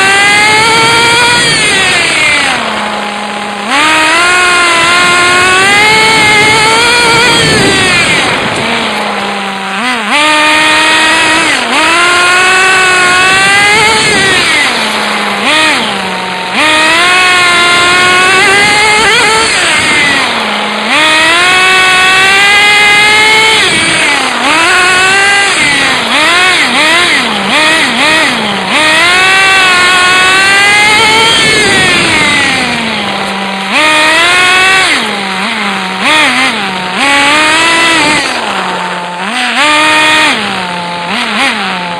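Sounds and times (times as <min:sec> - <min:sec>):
toy car motor revving: 0:00.0 - 0:41.9.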